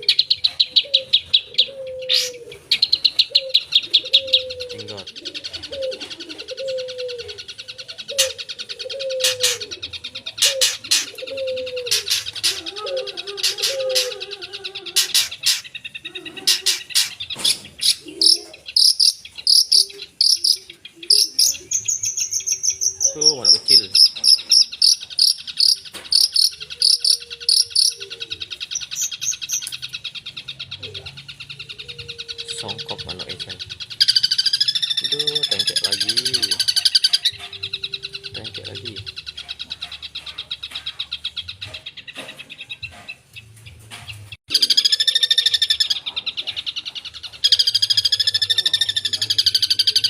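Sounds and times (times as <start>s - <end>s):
sharp high bird calls: 0.0s - 43.5s, 44.4s - 50.0s
shrike singing chattering song: 0.0s - 50.0s.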